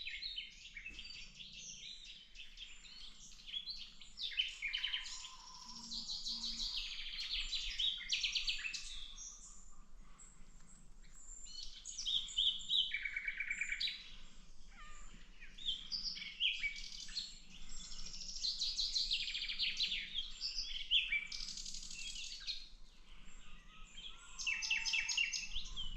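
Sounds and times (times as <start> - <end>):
nightingale singing: 0.0 - 9.6, 11.1 - 22.7, 23.7 - 25.9.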